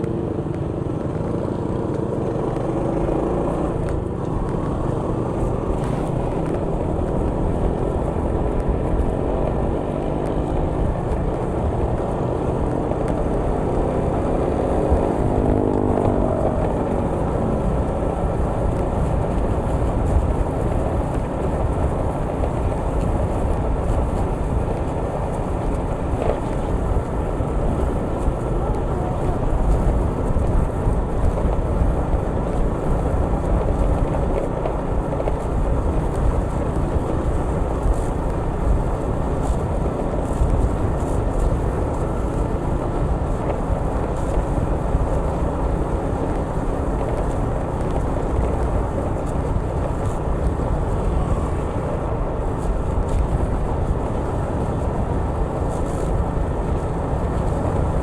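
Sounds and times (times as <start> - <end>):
vehicle road noise: 0.0 - 58.0
wind rumbling on microphone: 0.0 - 58.0.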